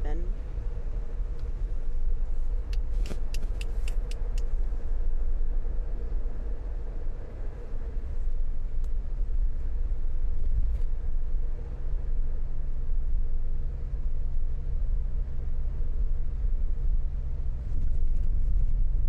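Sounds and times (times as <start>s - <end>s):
engine and tyre rumble in cabin: 0.0s - 19.0s.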